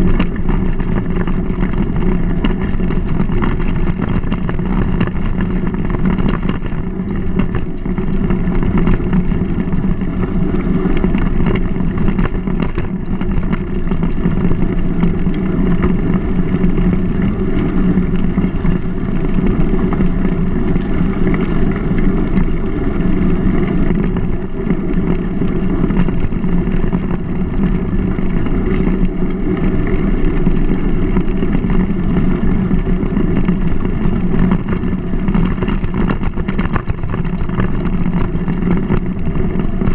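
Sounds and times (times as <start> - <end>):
bike rattles and clicks: 0.0 - 39.9
bike tyres on gravel: 0.0 - 39.9
wind on microphone: 0.0 - 39.9.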